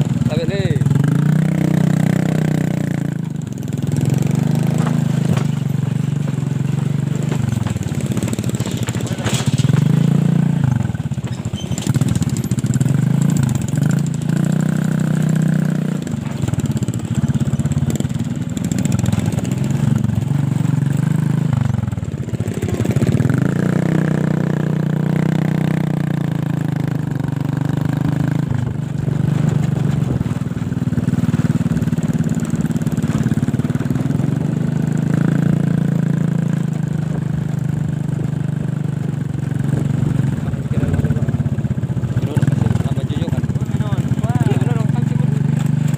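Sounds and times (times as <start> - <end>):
small motorcycle engine running: 0.0 - 45.9.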